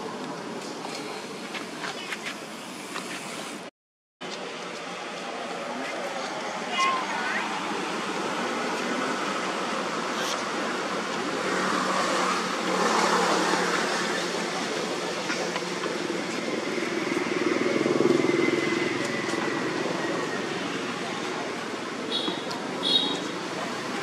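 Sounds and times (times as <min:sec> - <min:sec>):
passing motor traffic: 0:04.4 - 0:24.0.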